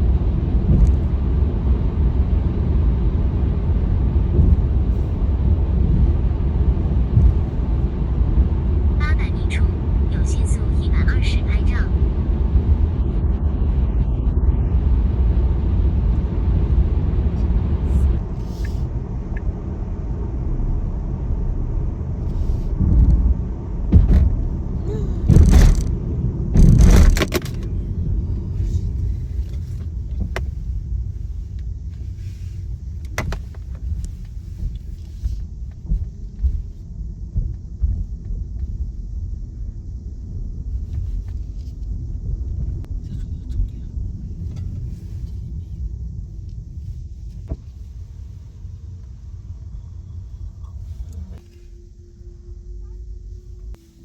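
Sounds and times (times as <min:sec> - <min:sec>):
car tyre and road rumble: 0:00.0 - 0:54.0.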